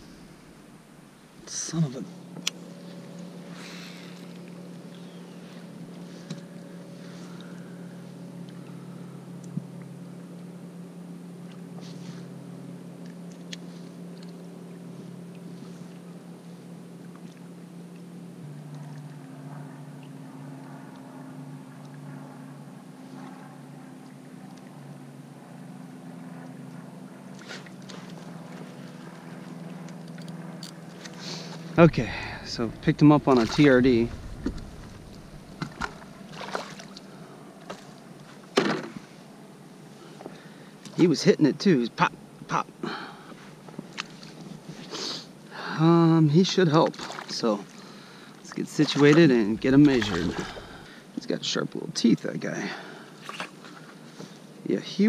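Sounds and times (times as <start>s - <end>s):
motorboat engine droning: 0.0s - 55.0s.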